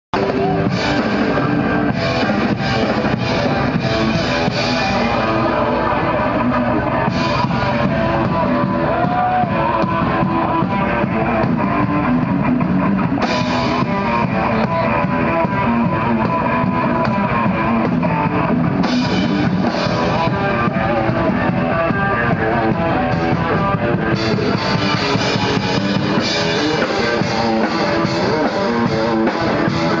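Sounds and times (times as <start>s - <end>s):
live rock band playing: 0.2s - 30.0s.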